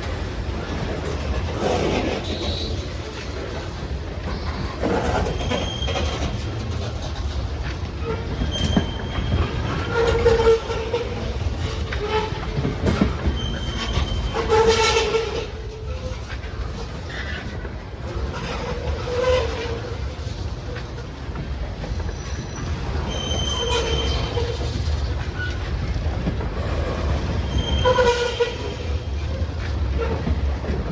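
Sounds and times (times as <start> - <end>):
train wheel clicks: 0.0 - 27.9
train cars rumbling: 0.0 - 30.9
train wheel squeals: 0.0 - 30.9.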